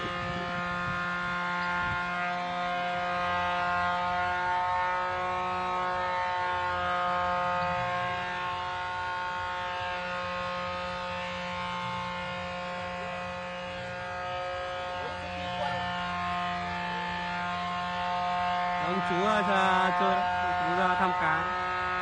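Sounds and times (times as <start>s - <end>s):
electronic drone of held tones: 0.0s - 22.0s.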